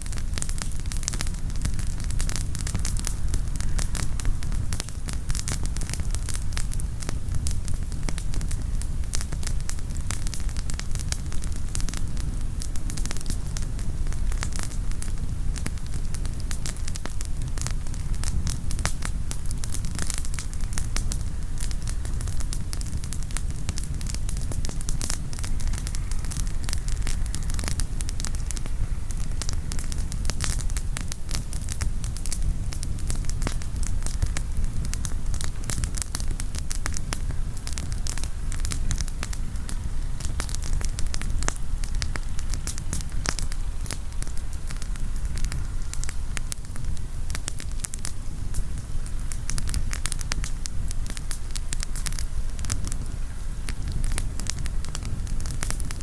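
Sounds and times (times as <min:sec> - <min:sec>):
wood campfire crackling: 0:00.0 - 0:56.0.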